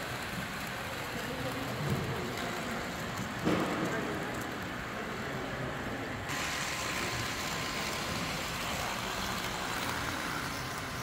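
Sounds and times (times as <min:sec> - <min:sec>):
exhibition hall background noise: 0:00.0 - 0:11.0
model train running: 0:00.0 - 0:11.0.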